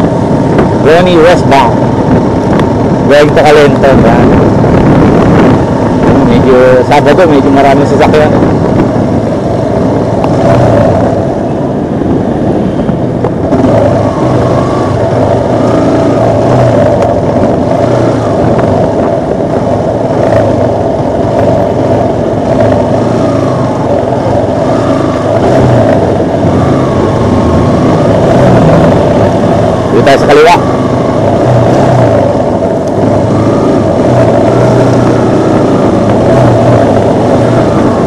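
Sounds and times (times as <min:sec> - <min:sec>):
motorcycle engine drone: 0:00.0 - 0:38.0.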